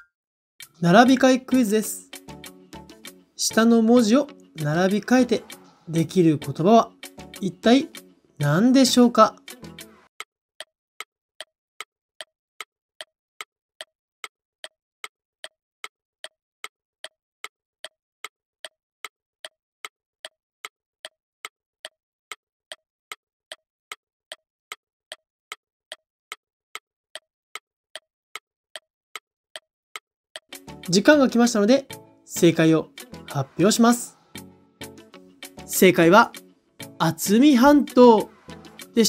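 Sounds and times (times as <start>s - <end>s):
clock ticking: 0.6s - 9.6s, 10.2s - 34.0s, 34.9s - 39.0s.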